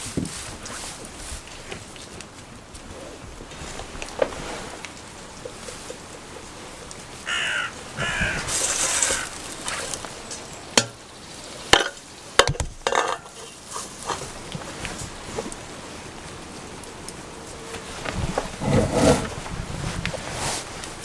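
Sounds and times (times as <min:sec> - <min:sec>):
rustling: 0:00.0 - 0:21.0.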